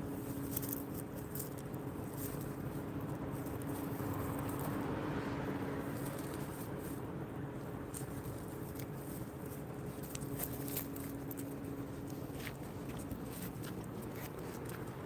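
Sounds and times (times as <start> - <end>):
steady two-tone hum: 0.0 - 15.0.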